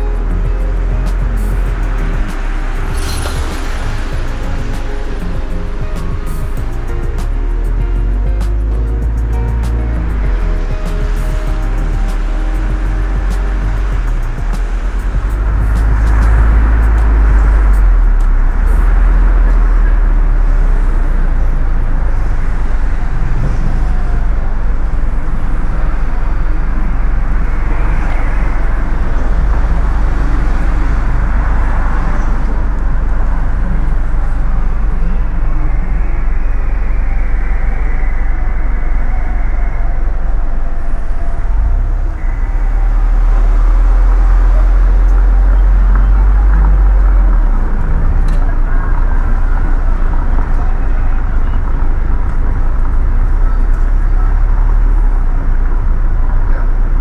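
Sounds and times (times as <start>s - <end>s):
car tyres on wet road: 0.0s - 57.0s
deep engine rumble: 0.0s - 57.0s.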